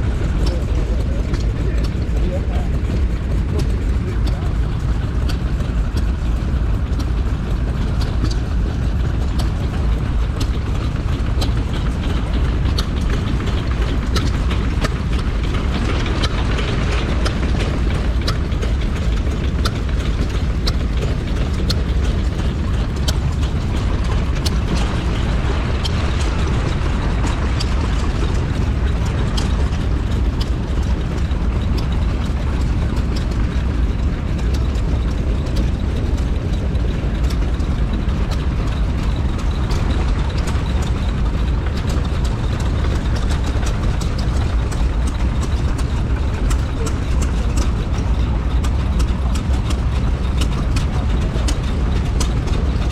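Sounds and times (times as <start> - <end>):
sharp engine ticks and clicks: 0.0 - 52.9
stationary engine running: 0.0 - 52.9.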